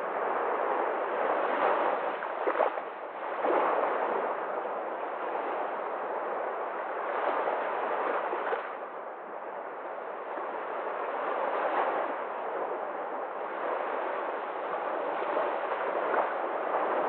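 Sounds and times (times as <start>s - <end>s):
waves washing up a sandy beach: 0.0s - 17.0s.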